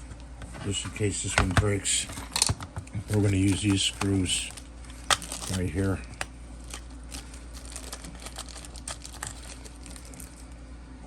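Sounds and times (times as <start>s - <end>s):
small plastic parts and screws rattling: 1.4s - 10.4s.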